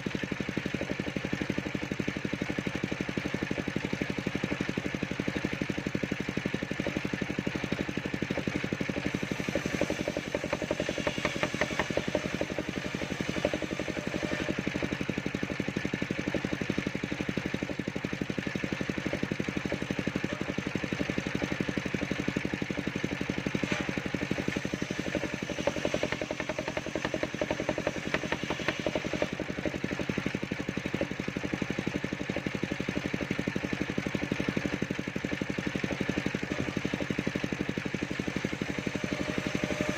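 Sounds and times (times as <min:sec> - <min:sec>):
saw engine running steadily: 0:00.0 - 0:39.9.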